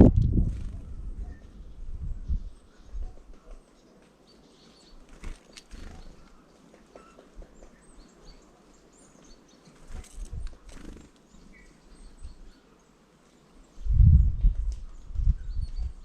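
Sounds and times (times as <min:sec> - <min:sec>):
faint songbird chirps: 0:00.4 - 0:16.0.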